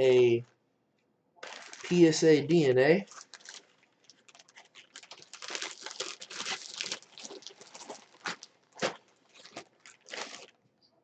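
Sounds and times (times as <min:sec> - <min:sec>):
packaging crinkling and rustling: 0:01.4 - 0:10.6.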